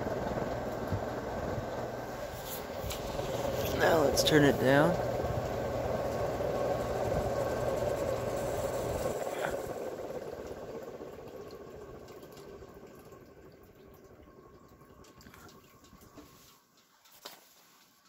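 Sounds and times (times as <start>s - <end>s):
ceiling fan air rush: 0.0s - 16.5s
fan motor hum: 0.0s - 17.1s.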